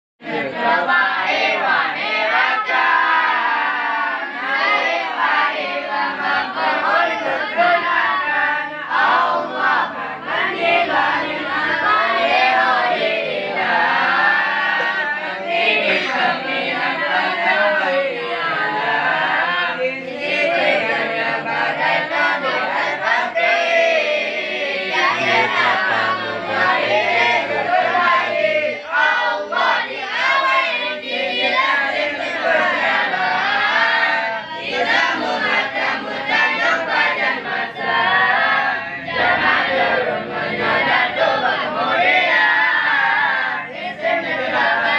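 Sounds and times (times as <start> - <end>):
children chanting in unison: 0.2 - 44.9.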